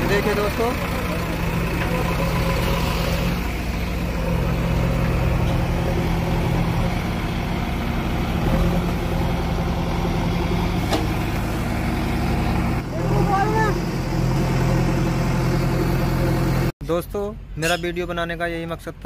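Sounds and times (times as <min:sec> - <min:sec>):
diesel engine running: 0:00.0 - 0:16.7.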